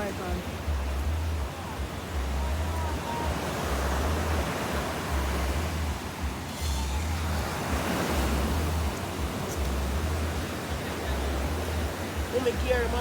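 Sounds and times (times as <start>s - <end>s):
surf washing on beach: 0.0s - 13.0s.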